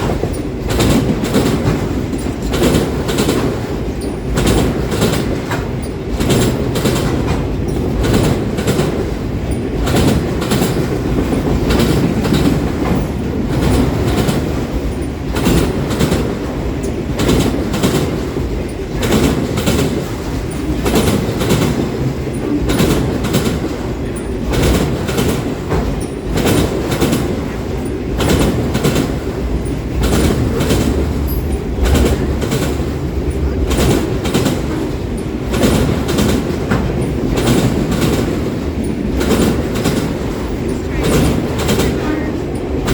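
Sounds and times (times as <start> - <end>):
freight train rumbling past: 0.0 - 42.9
wheels clicking over rail joints: 0.0 - 42.9.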